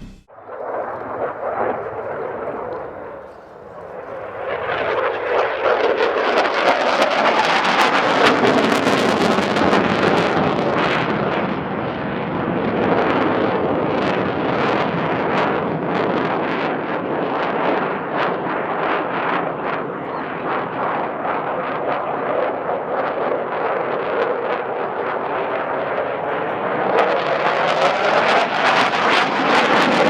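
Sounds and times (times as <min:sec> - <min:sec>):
loud jet noise with crackle: 0:00.0 - 0:30.0.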